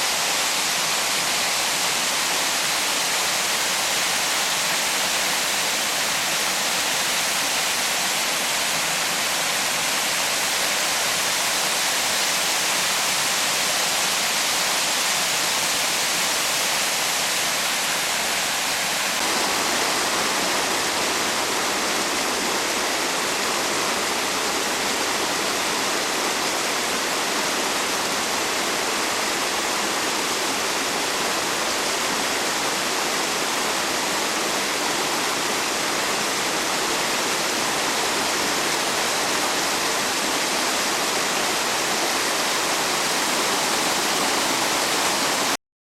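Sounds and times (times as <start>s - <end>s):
flowing water rushing: 0.0s - 45.6s.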